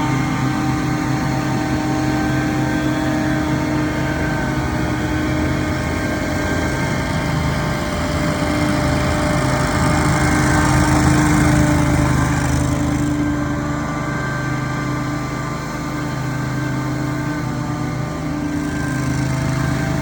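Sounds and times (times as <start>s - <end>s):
lawn equipment engine running: 0.0s - 20.0s.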